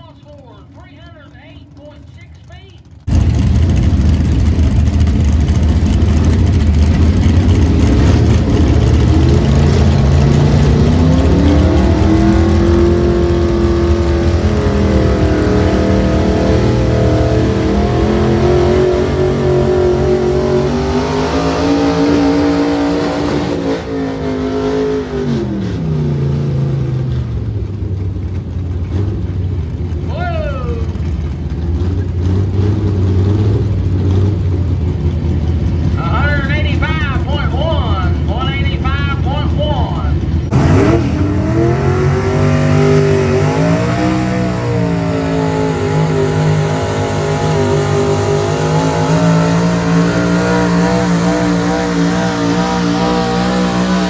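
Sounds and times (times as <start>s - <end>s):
truck engine at full throttle: 0.0s - 54.0s.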